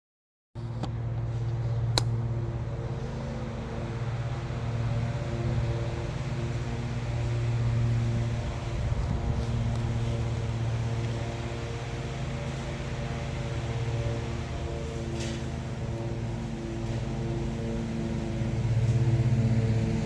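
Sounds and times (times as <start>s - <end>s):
low mechanical hum: 0.6s - 20.0s.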